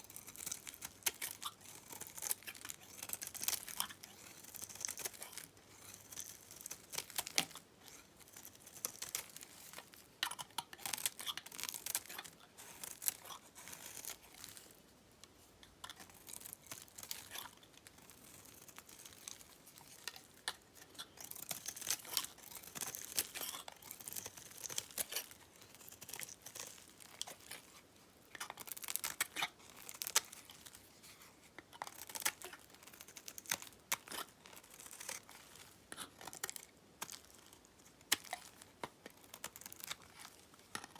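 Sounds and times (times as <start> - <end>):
knife crunching through soap: 0.0 - 14.8, 15.8 - 40.9.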